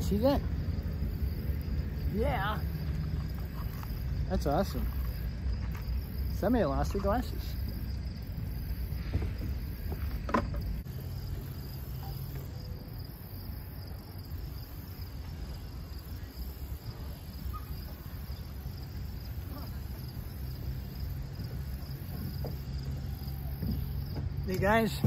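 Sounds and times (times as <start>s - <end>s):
insect chorus buzzing: 0.0s - 25.0s.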